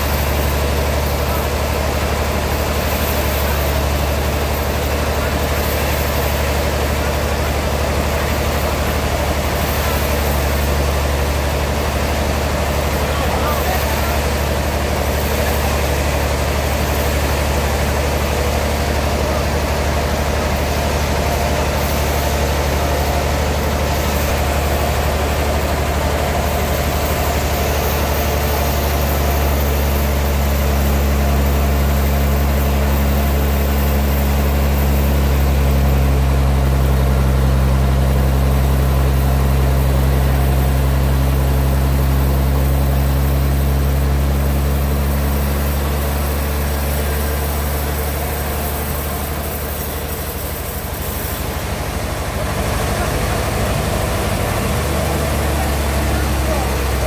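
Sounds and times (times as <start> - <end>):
sawmill engine drone: 0.0 - 57.0.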